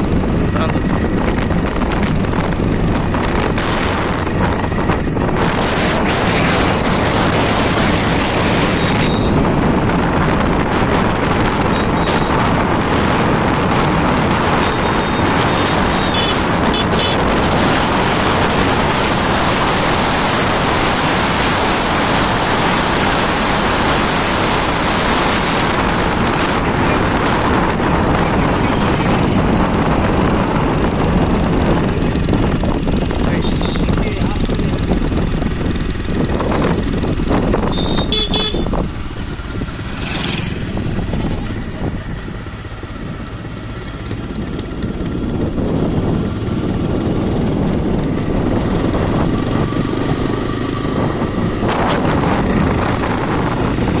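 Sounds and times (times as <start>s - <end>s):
moving vehicle road noise: 0.0s - 54.0s
wind on microphone: 0.0s - 54.0s.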